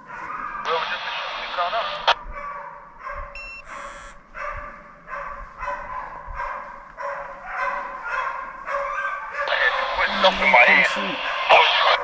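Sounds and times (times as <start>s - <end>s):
hounds barking: 0.0s - 12.0s.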